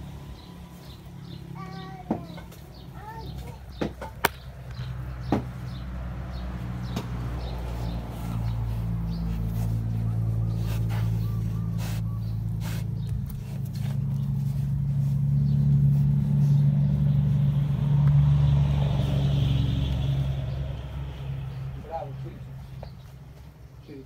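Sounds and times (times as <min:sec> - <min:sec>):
motor engine humming: 0:00.0 - 0:24.0.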